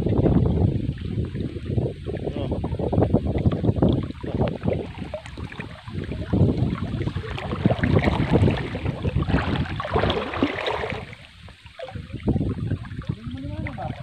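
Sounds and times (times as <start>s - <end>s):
water splashing as people wade: 0.0s - 14.0s.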